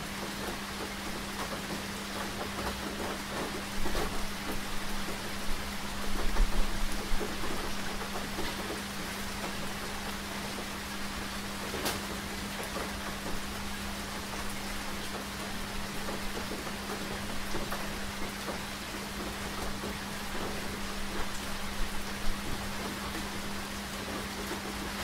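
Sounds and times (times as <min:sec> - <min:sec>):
raindrops hitting a surface: 0:00.0 - 0:25.0.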